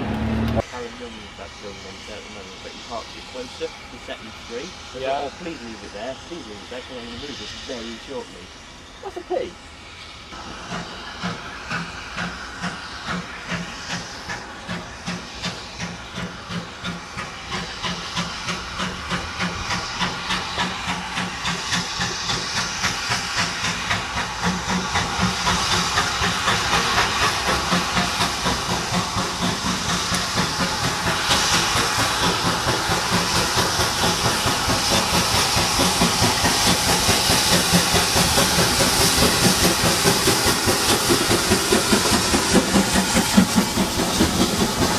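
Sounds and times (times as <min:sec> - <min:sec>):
steam locomotive exhaust chuffs: 0:00.0 - 0:44.9
steady steam hiss: 0:00.6 - 0:44.9.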